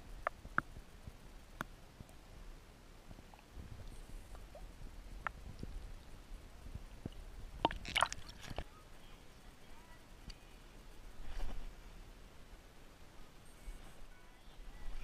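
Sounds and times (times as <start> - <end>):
muffled underwater rumble: 0.0 - 12.2.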